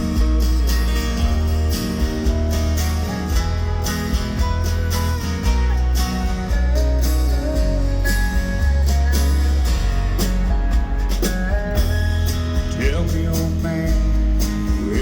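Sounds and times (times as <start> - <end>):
bass line: 0.0 - 15.0
lead melody line: 0.0 - 15.0
strummed acoustic guitars: 0.0 - 15.0.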